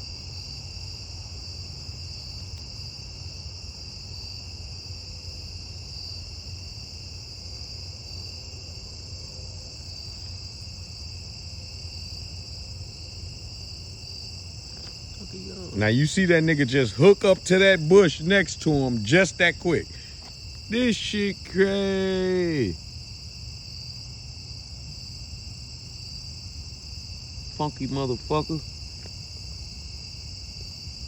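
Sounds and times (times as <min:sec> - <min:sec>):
night insects trilling: 0:00.0 - 0:31.0.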